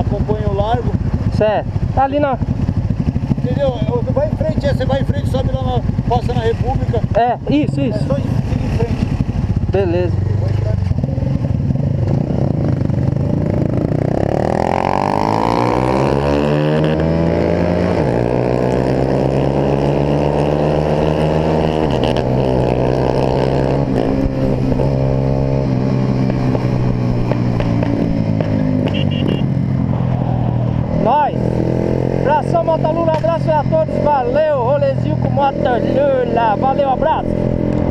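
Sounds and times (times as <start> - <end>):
motorcycle revving and pulling away: 0.0 - 37.9.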